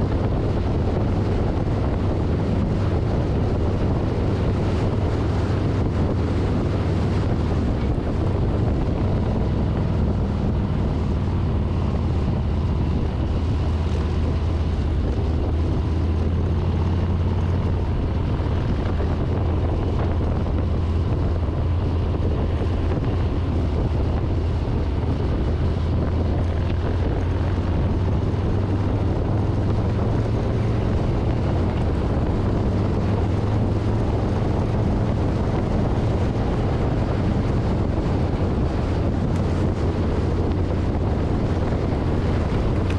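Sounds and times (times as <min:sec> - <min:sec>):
motorcycle engine cruising: 0:00.0 - 0:42.9
wind rushing over microphone: 0:00.0 - 0:42.9.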